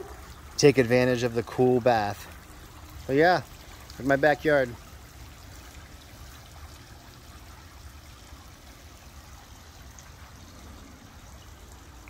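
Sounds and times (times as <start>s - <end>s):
fountain water running: 0.0s - 12.0s.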